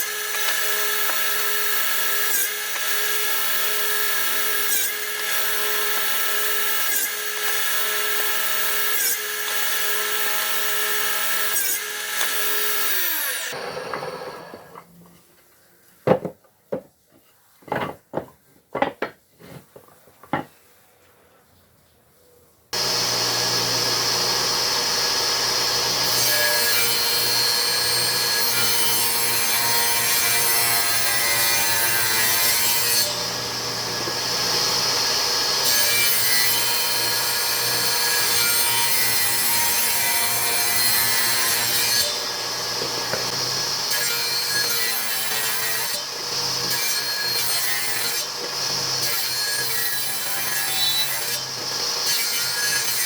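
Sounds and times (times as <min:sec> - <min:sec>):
power tool cutting wood: 0:00.0 - 0:14.8, 0:22.8 - 0:53.0.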